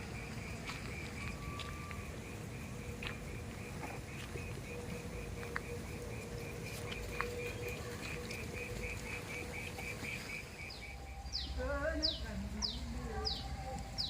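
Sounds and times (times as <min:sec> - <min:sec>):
pulsing high chirping call: 0:00.0 - 0:14.0.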